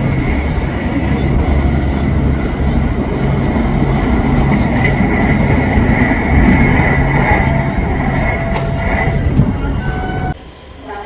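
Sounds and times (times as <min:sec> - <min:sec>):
high wheel squeal: 0:00.0 - 0:11.0
train wheels rumbling on track: 0:00.0 - 0:11.0.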